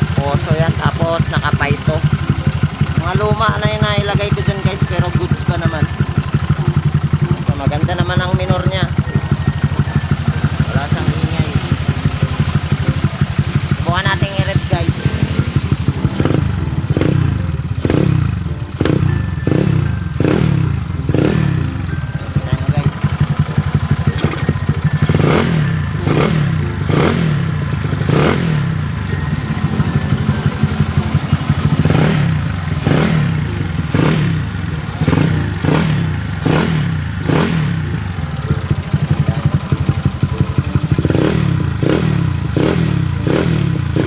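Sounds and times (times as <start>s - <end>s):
scooter engine revving: 0.0s - 44.0s.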